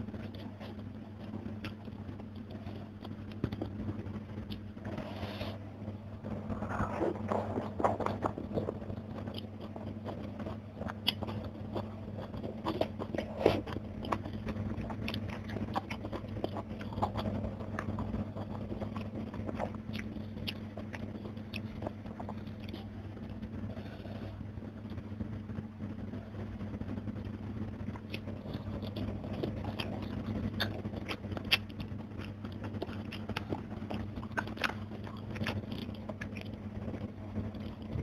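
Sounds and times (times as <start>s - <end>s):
chewing with crisp crunches: 0.0s - 38.0s
steady low hum: 0.0s - 38.0s.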